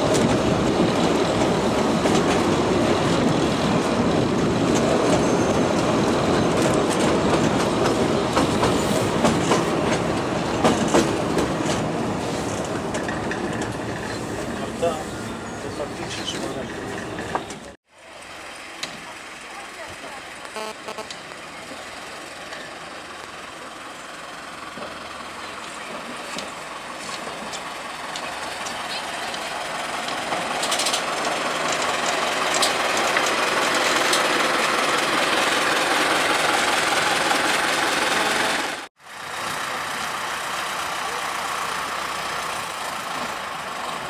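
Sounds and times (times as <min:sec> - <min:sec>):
diesel locomotive engine: 0:00.0 - 0:44.0
train wheels on rails: 0:00.0 - 0:44.0.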